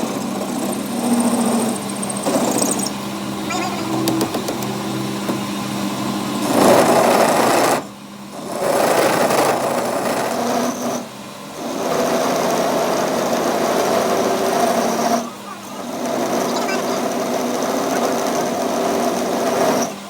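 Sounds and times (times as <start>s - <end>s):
power tool running under load: 0.0s - 20.0s.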